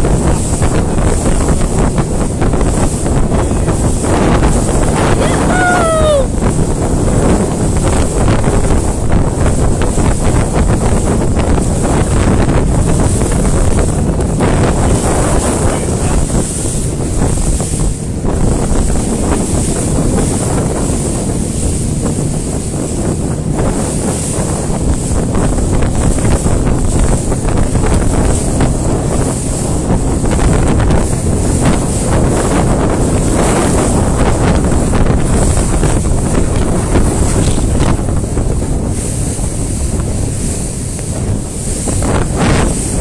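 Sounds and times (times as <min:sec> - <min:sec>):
water rushing past hull: 0:00.0 - 0:43.0
wind buffeting microphone: 0:00.0 - 0:43.0.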